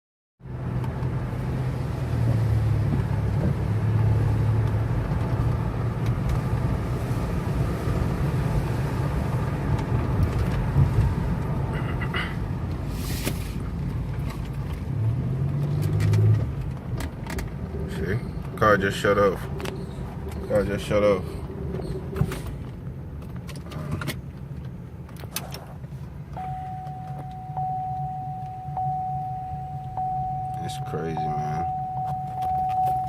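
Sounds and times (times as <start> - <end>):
car engine running: 0.4 - 33.0
road noise: 0.4 - 33.0.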